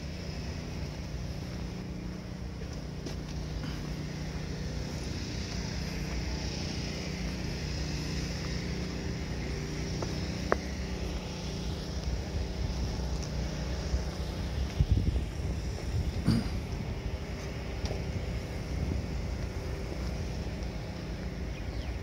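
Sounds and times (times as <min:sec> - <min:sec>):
distant road traffic hum: 0:00.0 - 0:22.0.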